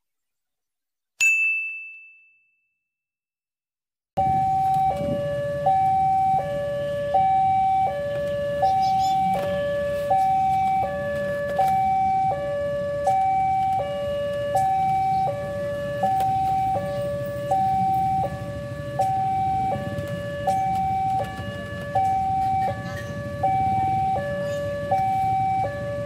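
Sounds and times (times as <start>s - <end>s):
two-tone level-crossing alarm: 4.2s - 26.0s.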